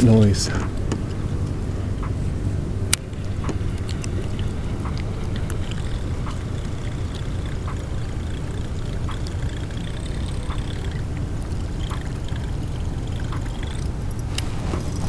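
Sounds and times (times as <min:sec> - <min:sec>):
buzzbait blade churning water: 0:00.0 - 0:15.0
light clicks: 0:00.6 - 0:15.0.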